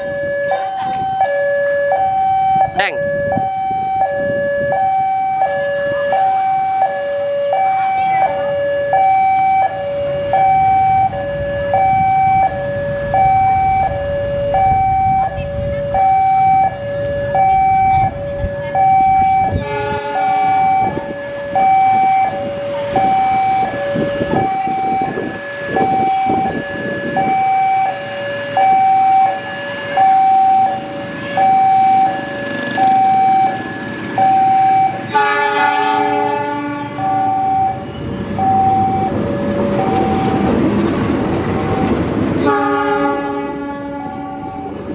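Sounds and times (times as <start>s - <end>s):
two-tone level-crossing alarm: 0.0s - 43.1s.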